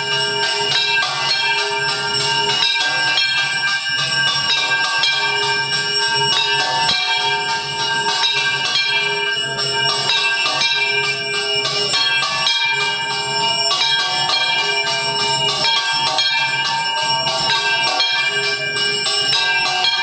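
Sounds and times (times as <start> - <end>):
temple bells ringing: 0.0 - 20.0.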